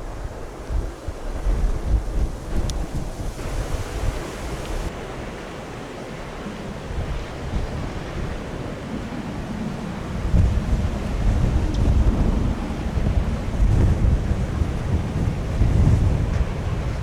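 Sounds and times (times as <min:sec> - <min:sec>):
gusting wind buffeting microphone: 0:00.0 - 0:17.0.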